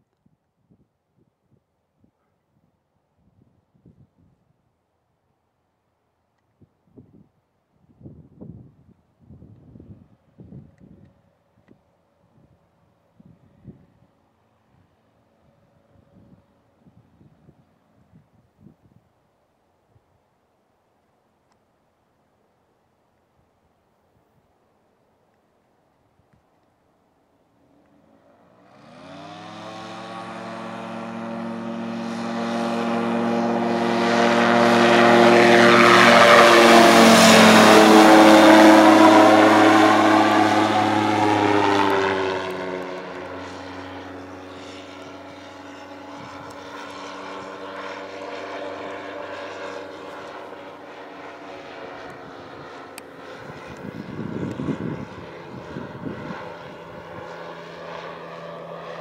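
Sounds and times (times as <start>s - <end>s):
light airplane engine and propeller: 0.0s - 59.0s.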